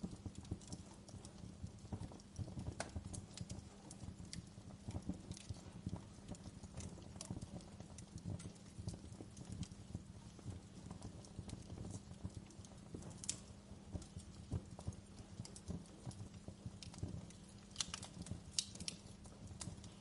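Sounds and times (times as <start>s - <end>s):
low rumble of flame: 0.0s - 20.0s
wood fire crackling: 0.0s - 20.0s
sharp fire pops: 1.8s - 20.0s.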